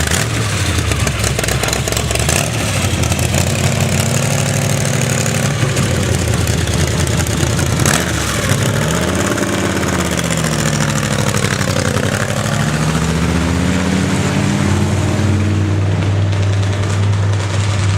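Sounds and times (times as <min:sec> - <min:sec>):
car engine revving: 0:00.0 - 0:17.9.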